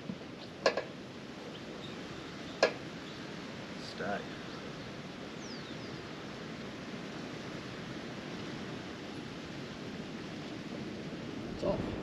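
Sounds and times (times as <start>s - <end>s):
wind rushing through trees: 0.0s - 12.0s.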